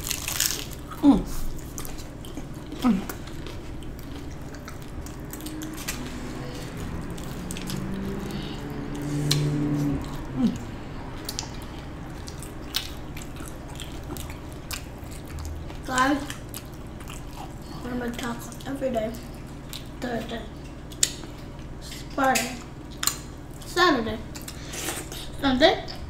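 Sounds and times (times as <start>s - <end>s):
crunchy taco chewing: 0.0s - 25.4s.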